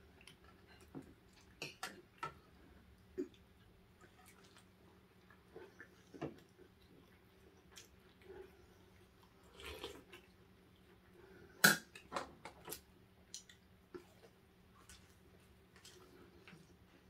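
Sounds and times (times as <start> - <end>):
chewing and handling food: 0.0 - 17.0.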